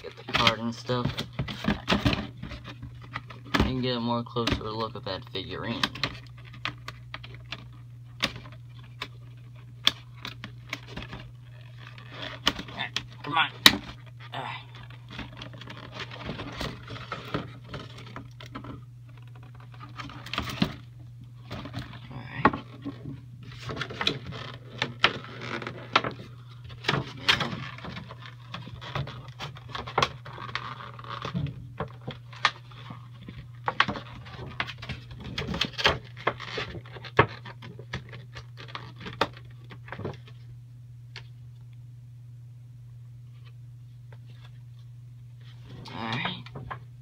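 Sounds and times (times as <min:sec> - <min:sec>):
plastic and cardboard handling: 0:00.0 - 0:41.4
steady low hum: 0:00.0 - 0:47.0.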